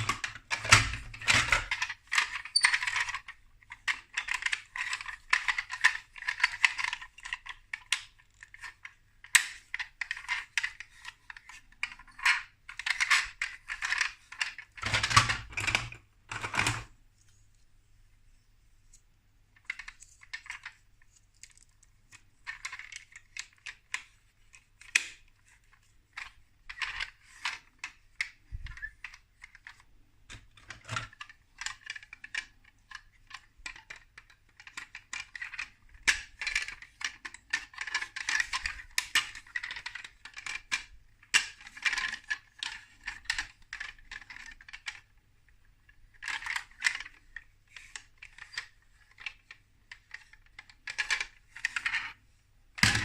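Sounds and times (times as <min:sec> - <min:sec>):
plastic bricks clicking and rattling: 0:00.0 - 0:16.9, 0:19.6 - 0:52.2.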